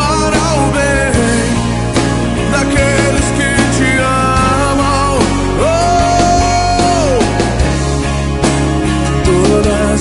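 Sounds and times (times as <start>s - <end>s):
band playing song with bass and drums: 0.0s - 10.0s.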